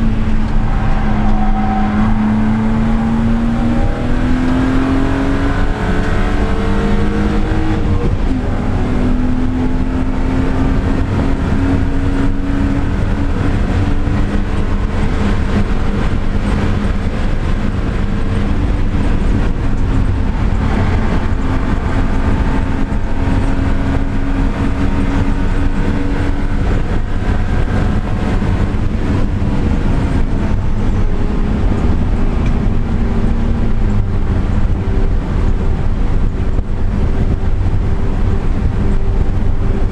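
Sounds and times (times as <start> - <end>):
car engine revving through gears: 0.0 - 39.9
road and wind rumble: 0.0 - 39.9.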